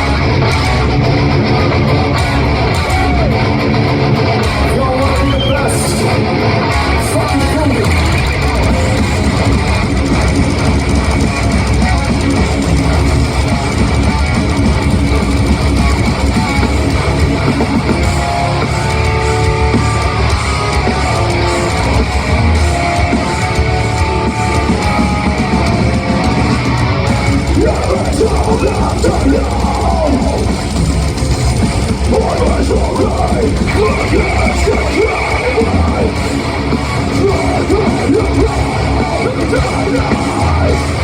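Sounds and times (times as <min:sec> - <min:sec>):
heavy metal band playing: 0:00.0 - 0:41.0
picked guitar melody: 0:00.0 - 0:41.0.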